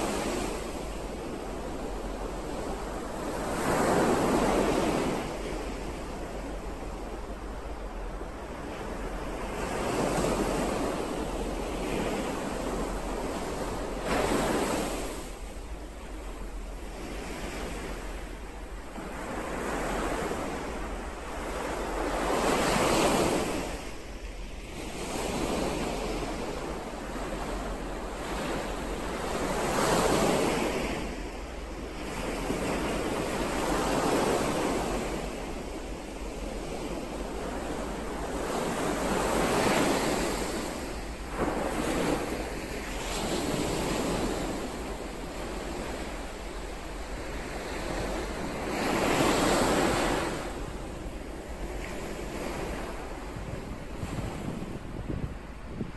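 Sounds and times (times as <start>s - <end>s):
waves breaking: 0.0s - 55.9s.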